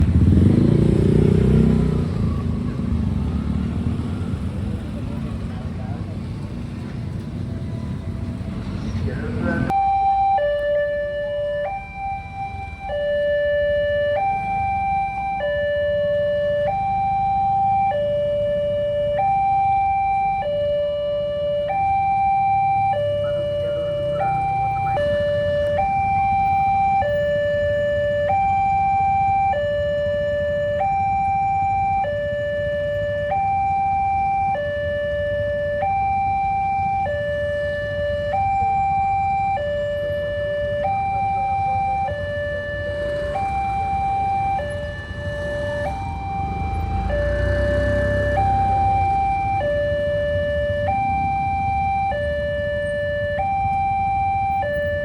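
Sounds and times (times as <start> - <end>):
level crossing two-tone alarm: 9.7 - 55.0.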